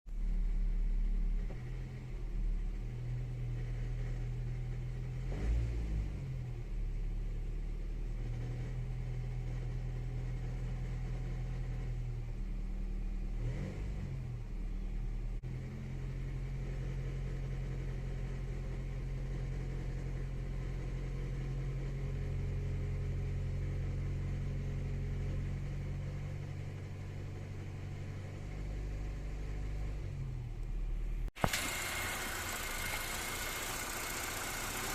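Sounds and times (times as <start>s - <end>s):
car engine running at low revs: 0.1s - 34.9s.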